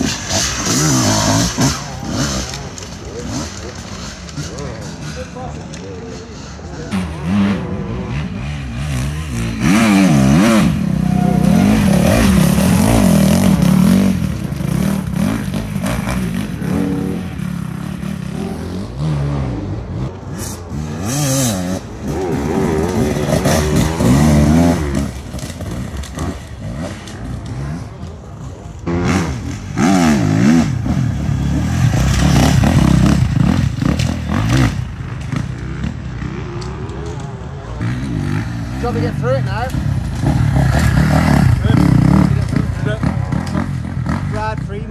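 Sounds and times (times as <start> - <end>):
dirt bike engine revving: 0.0 - 5.5, 6.3 - 44.9.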